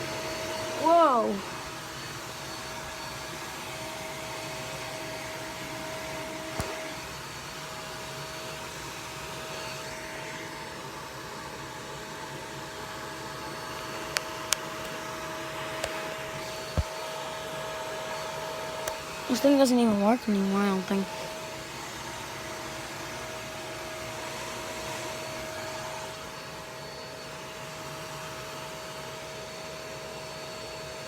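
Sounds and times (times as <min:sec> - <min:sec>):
vacuum cleaner whining: 0:00.0 - 0:31.0.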